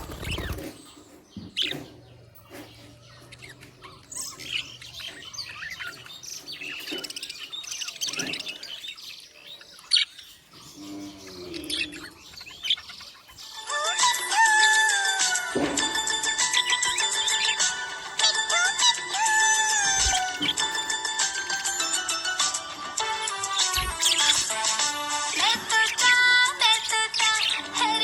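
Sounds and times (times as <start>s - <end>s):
budgerigars chirping: 0.0s - 28.0s.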